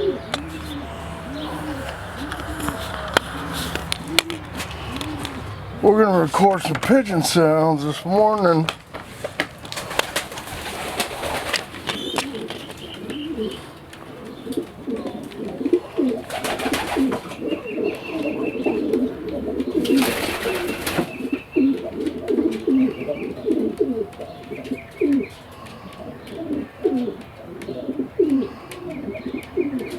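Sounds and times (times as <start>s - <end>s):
pigeons cooing: 0.0s - 6.8s, 9.7s - 29.9s.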